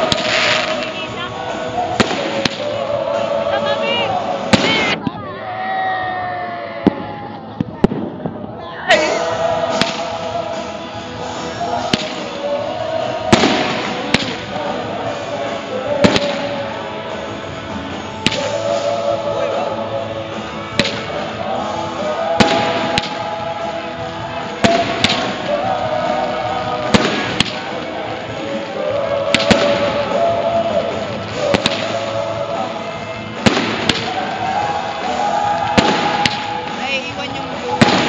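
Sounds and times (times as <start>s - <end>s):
music with singing: 0.0s - 38.0s.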